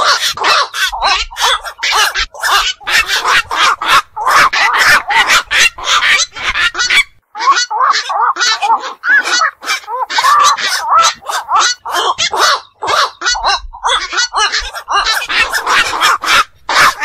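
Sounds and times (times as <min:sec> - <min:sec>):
heron harsh calls: 0:00.0 - 0:17.0.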